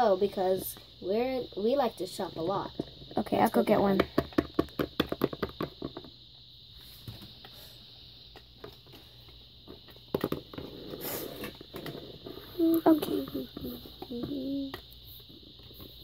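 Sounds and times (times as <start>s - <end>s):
faint room hiss: 0.0s - 16.0s.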